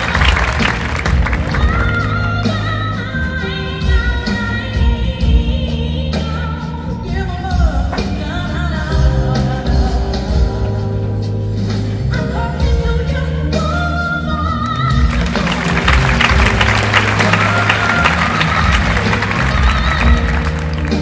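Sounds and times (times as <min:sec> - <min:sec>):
pop song with singing: 0:00.0 - 0:21.0.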